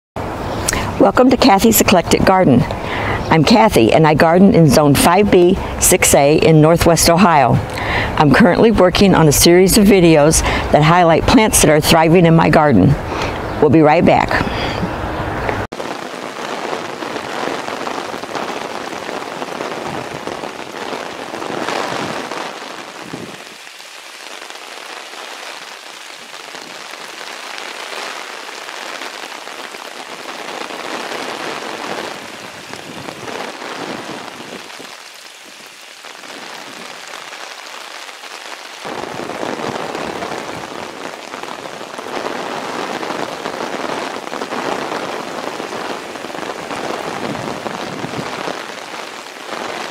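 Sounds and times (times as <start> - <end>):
hard rain pouring on plants: 0.2 - 49.9.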